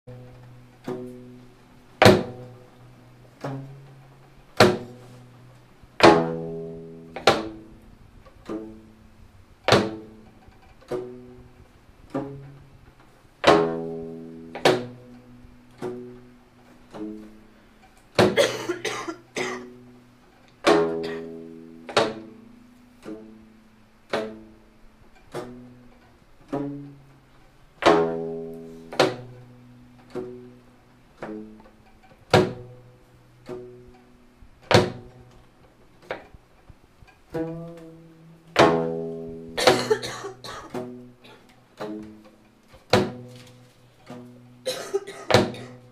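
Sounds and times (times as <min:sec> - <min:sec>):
zither notes struck with a stick: 0:00.1 - 0:43.4.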